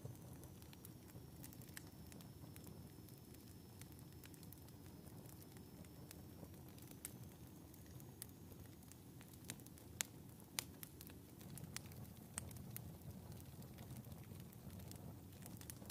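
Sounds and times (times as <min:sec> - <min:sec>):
low rumble of stove: 0:00.0 - 0:15.9
wood fire crackling and popping: 0:00.0 - 0:15.9.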